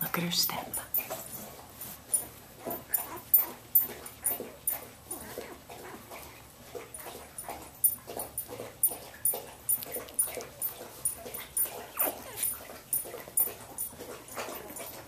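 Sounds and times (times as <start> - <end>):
puppies whimpering: 2.2 - 15.0.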